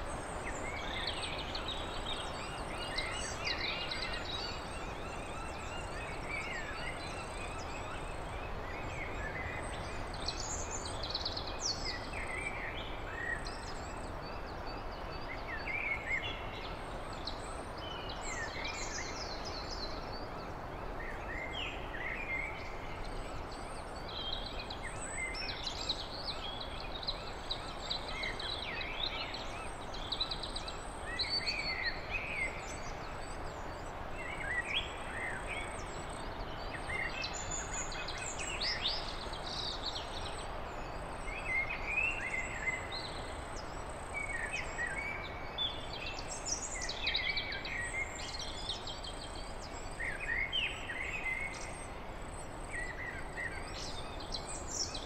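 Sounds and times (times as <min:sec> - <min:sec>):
background hiss: 0:00.0 - 0:55.0.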